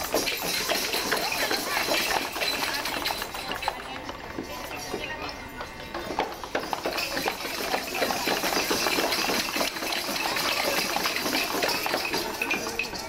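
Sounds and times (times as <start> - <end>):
crowd of children: 0.0 - 13.0.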